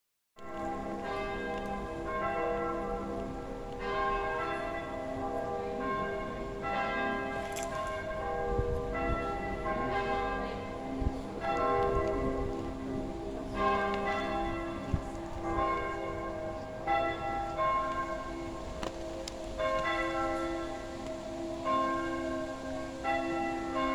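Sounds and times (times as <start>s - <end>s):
church bells ringing: 0.4s - 23.9s.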